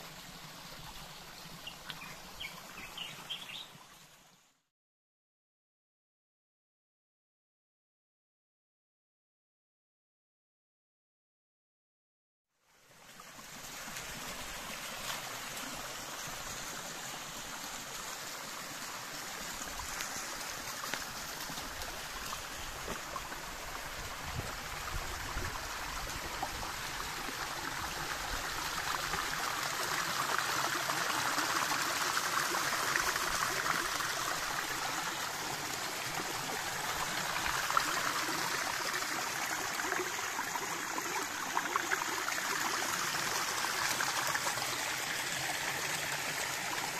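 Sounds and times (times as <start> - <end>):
stream trickling over rock: 0.0 - 4.4, 12.7 - 46.9.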